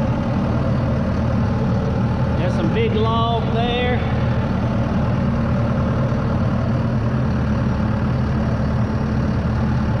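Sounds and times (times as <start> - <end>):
heavy engine idling: 0.0 - 10.0.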